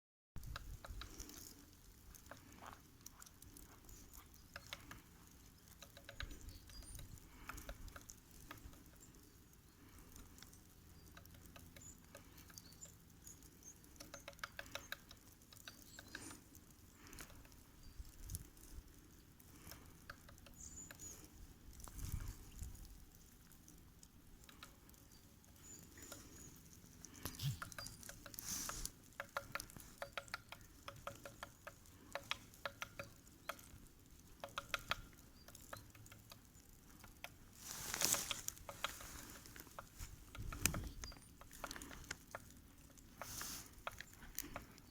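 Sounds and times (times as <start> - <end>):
woodpecker tapping on tree: 0.5 - 44.9.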